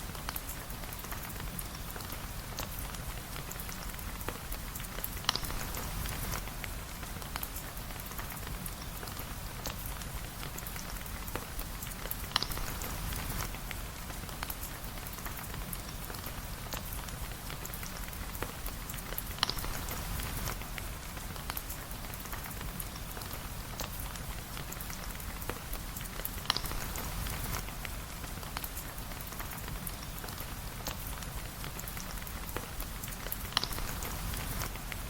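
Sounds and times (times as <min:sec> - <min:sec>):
steady rain: 0:00.0 - 0:35.0
wood fire crackling: 0:00.0 - 0:35.0.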